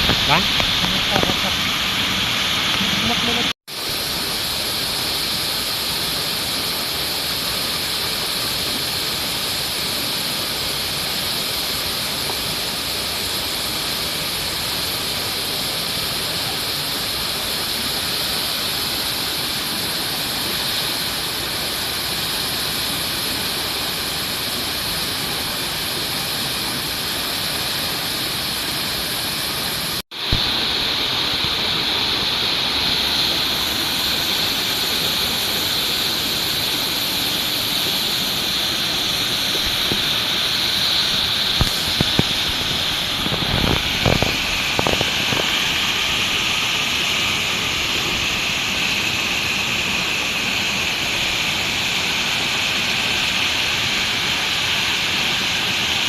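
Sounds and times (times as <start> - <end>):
steady outdoor hiss: 0.0 - 56.0.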